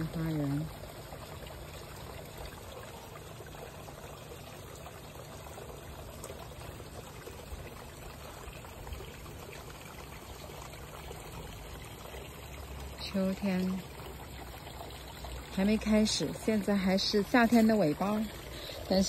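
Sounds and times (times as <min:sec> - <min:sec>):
water trickling into pond: 0:00.0 - 0:19.0.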